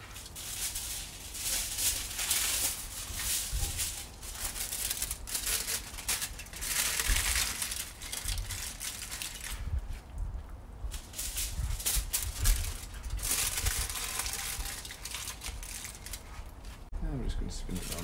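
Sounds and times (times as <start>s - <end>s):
aluminium foil crinkling: 0.0s - 10.2s, 10.9s - 16.9s, 17.7s - 18.0s.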